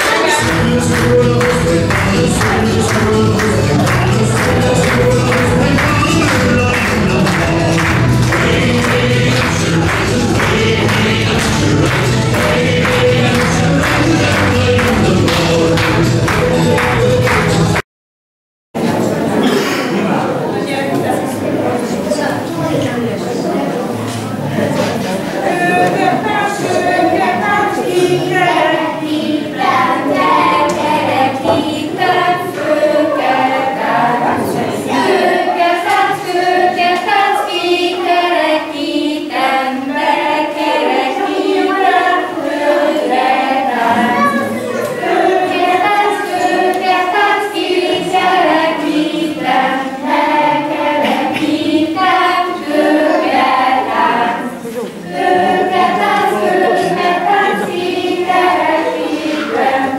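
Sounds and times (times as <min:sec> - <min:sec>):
children and women singing: 0:00.0 - 0:17.8, 0:23.9 - 0:59.9.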